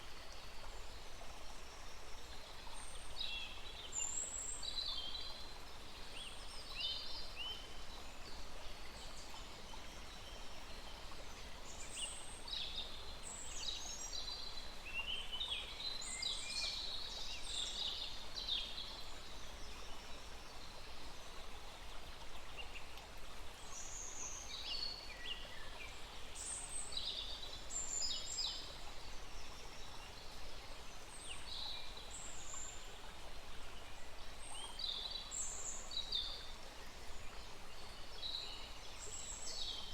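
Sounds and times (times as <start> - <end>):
small stream rushing: 0.0 - 39.9.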